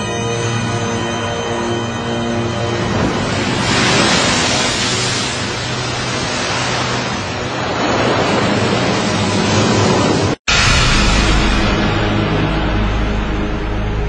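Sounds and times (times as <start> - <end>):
water splashing and surging: 0.0 - 14.0.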